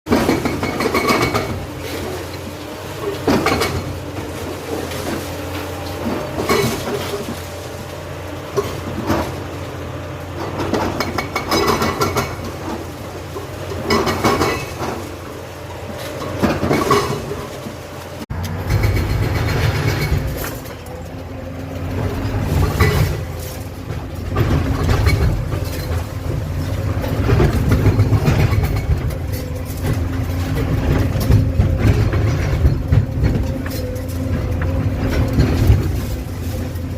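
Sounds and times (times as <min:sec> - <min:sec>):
excavator engine rumble: 0:00.1 - 0:36.9
excavator rattling and clanking: 0:00.1 - 0:36.9.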